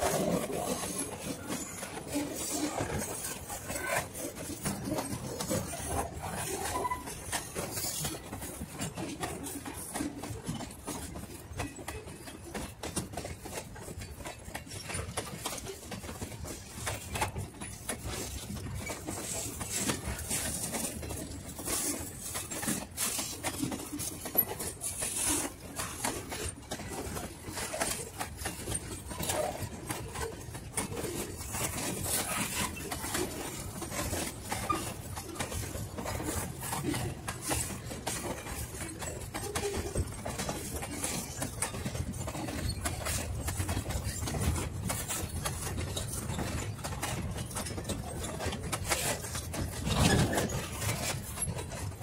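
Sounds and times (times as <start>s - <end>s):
train wheels clattering on rails: 0.0s - 52.0s.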